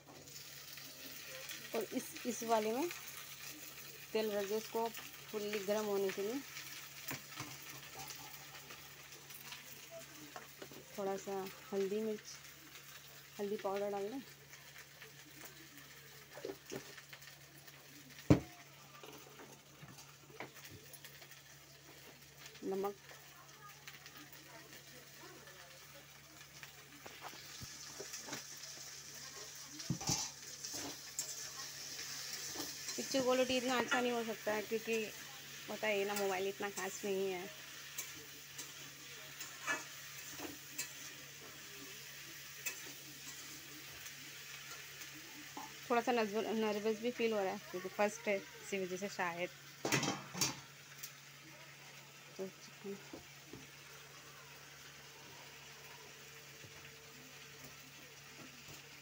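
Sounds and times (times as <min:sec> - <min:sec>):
okra frying faint sizzle: 0:00.0 - 0:59.0.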